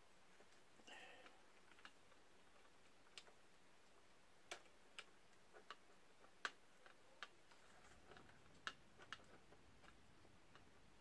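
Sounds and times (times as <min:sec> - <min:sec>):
small plastic clicks and taps: 0:00.4 - 0:11.0.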